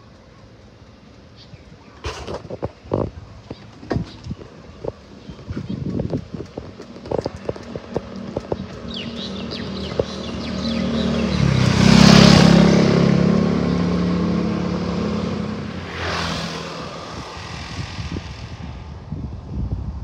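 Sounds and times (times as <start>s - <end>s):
vehicles passing by: 0.0s - 20.0s.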